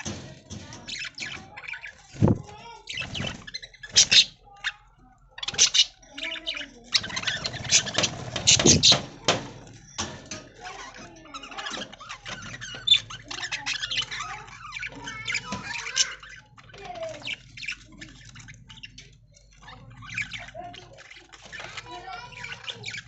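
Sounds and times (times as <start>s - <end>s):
budgies chattering: 0.0s - 23.0s.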